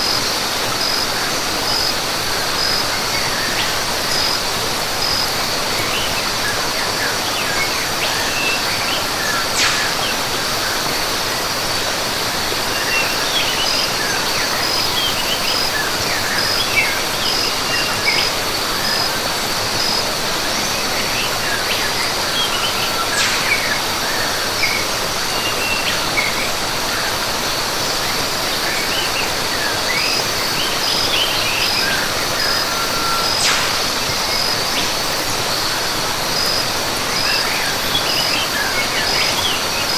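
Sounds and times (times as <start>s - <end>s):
pulsing high insect drone: 0.0s - 39.9s
rush of falling water: 0.0s - 39.9s
birds chirping: 1.7s - 11.2s, 12.6s - 26.5s, 28.6s - 39.9s.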